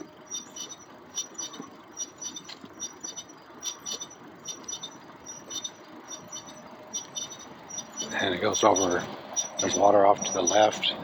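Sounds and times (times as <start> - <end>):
wheels rolling rumble: 0.0 - 11.0
high chirping clicks: 0.3 - 10.7.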